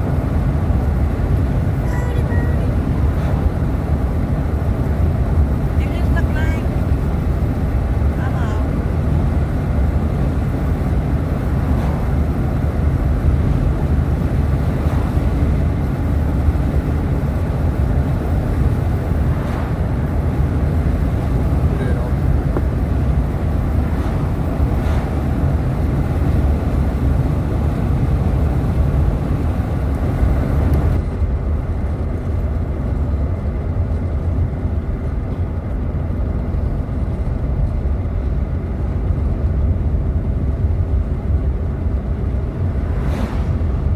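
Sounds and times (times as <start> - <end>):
road and engine rumble: 0.0 - 43.9.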